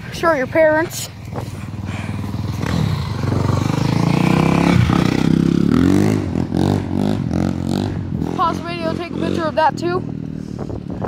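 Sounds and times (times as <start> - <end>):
vehicle engine passing: 1.4 - 10.7.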